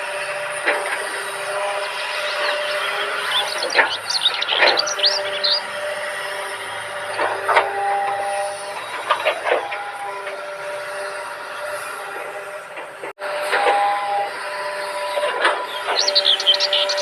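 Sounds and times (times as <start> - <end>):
higher motor whine: 0.0 - 17.0
small electric motors whining: 0.0 - 17.0.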